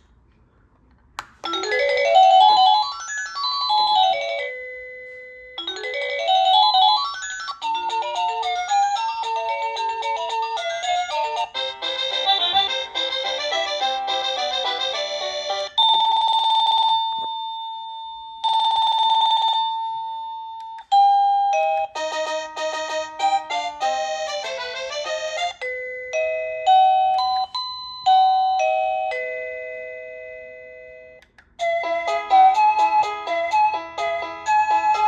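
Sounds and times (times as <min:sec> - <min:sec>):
doorbell chime melody: 0:01.4 - 0:35.0.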